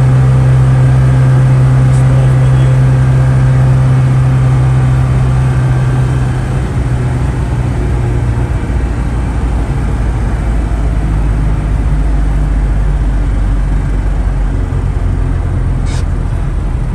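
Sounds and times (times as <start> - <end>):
car engine running while driving: 0.0 - 16.9.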